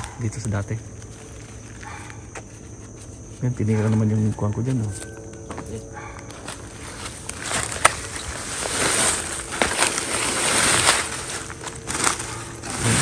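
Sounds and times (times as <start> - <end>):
footsteps in dry leaves: 0.0 - 13.0.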